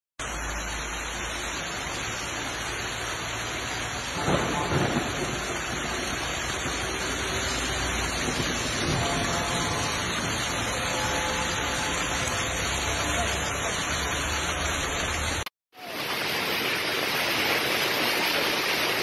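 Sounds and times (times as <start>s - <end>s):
hail and rain falling: 0.2s - 19.0s.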